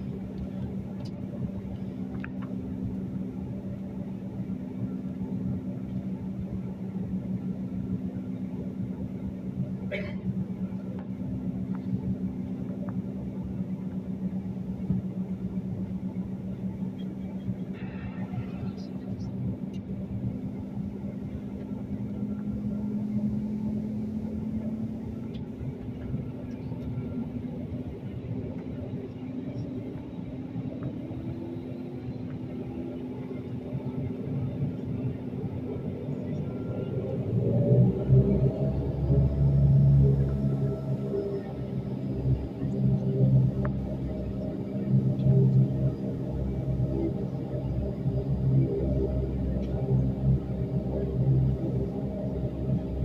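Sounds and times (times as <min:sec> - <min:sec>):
airliner cabin drone: 0:00.0 - 0:53.0.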